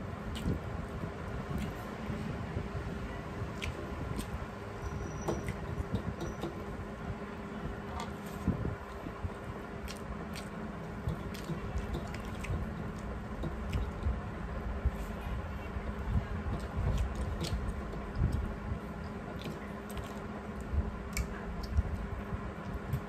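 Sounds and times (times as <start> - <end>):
wet squishing of rice by hand: 0.0 - 23.0.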